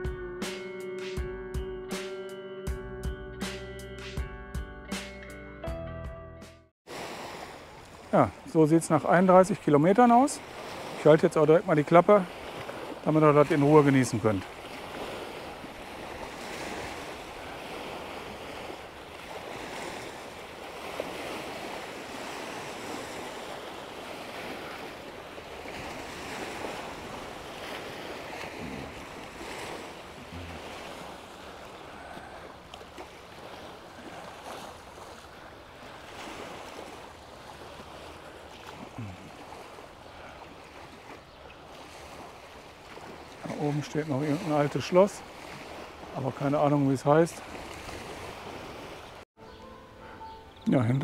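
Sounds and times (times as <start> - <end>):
waves lapping against shore: 6.8 - 51.0
wind blowing: 6.9 - 51.0.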